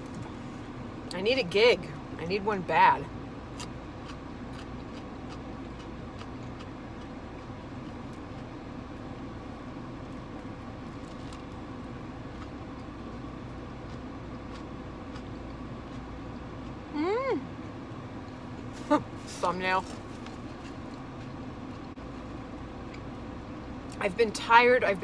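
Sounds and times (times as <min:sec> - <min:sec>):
car interior hum: 0:00.0 - 0:25.0.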